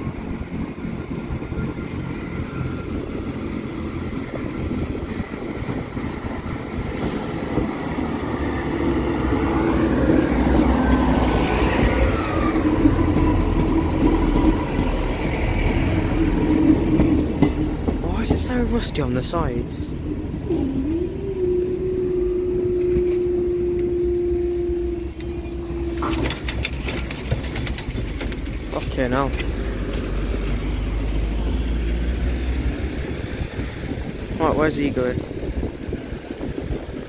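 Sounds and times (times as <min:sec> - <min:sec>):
diesel train engine drone: 0:00.0 - 0:37.0.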